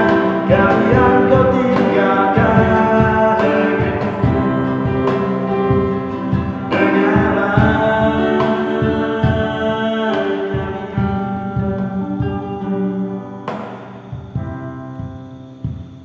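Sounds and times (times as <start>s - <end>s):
young man singing: 0.0s - 13.6s
strummed acoustic guitar: 0.0s - 14.6s
cajon beats: 0.0s - 16.0s
sustained keyboard chords: 0.0s - 16.0s.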